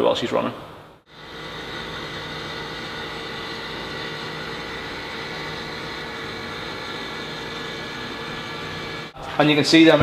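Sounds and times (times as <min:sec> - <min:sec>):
electric motor whine: 0:01.1 - 0:09.2.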